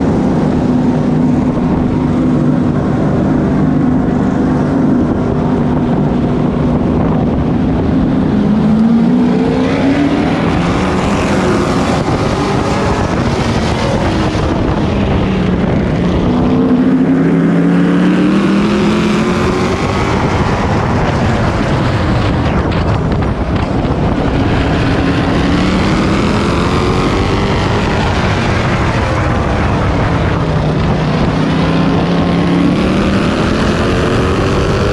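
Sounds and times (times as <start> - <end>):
race truck engine revving: 0.0 - 34.9.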